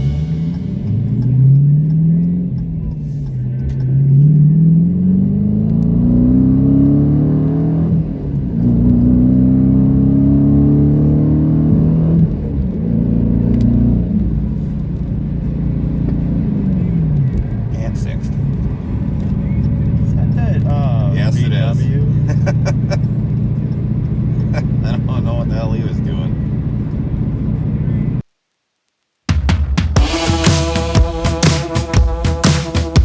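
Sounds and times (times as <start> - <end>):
car engine accelerating: 0.0 - 28.2.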